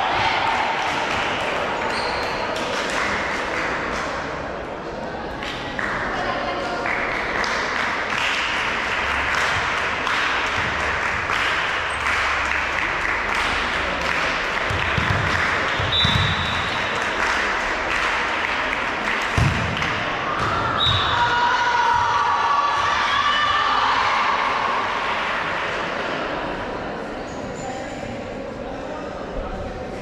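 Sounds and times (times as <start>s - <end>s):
din of spectators: 0.0s - 30.0s.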